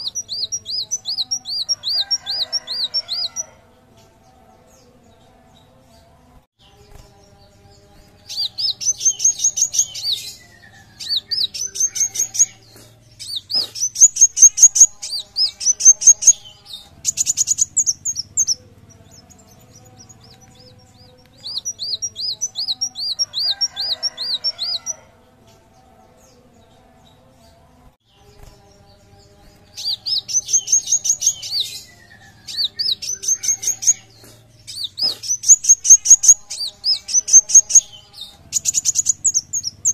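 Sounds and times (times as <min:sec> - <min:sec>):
bird singing fast high chirps: 0:00.0 - 0:03.5, 0:06.7 - 0:25.0, 0:28.1 - 0:39.9.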